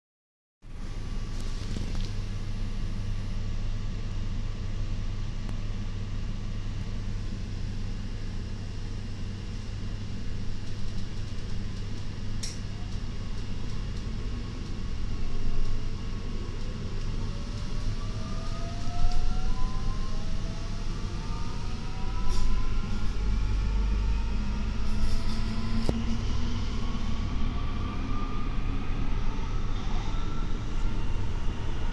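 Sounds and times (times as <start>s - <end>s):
steady low hum: 0.7s - 31.9s
train inverter whine rising: 0.7s - 31.9s.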